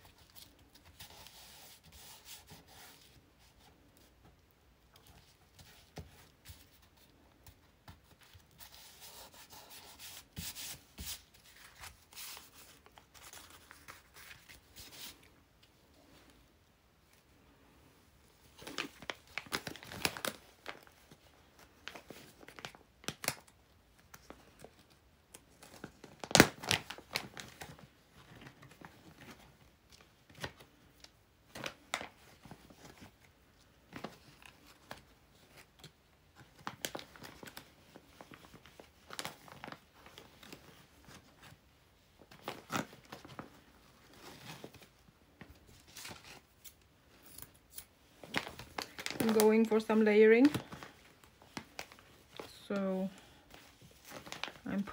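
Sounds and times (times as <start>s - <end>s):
paper rustling and crinkling: 0.0s - 16.4s, 18.4s - 54.9s.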